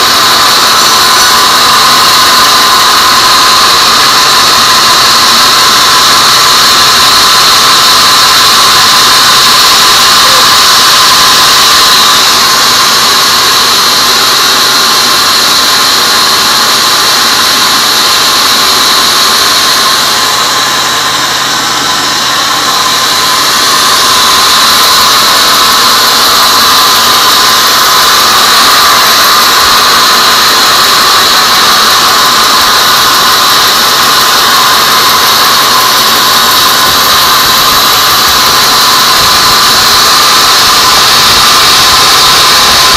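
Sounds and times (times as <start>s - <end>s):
band saw cutting wood: 0.0s - 42.9s.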